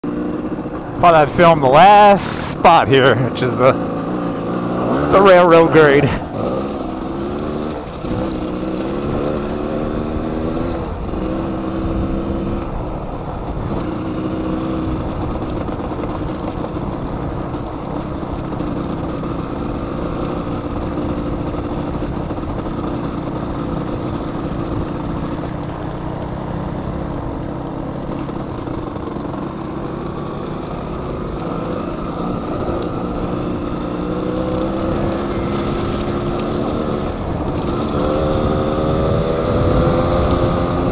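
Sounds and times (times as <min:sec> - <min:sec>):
other dirt bikes approaching: 0:00.0 - 0:40.9.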